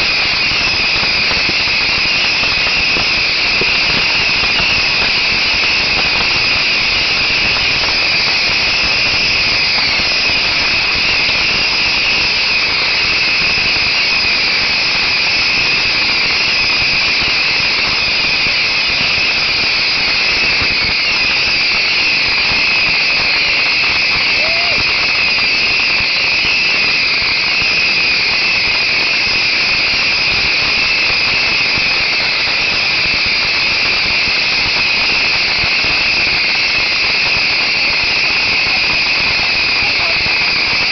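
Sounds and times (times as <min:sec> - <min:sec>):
bottle rockets firing: 0:00.0 - 0:40.9.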